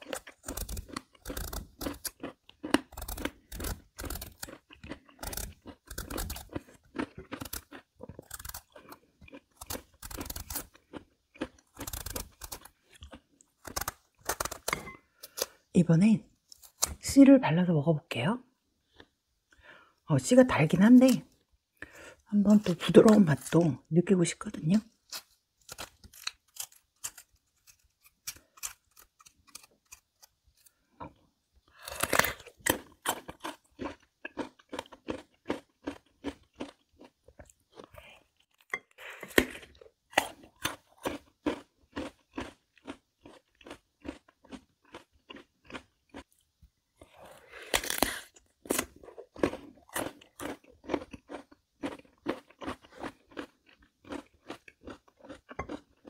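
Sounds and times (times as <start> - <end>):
crunchy chewing of melon: 0.0 - 15.6, 24.8 - 46.4, 47.0 - 56.0.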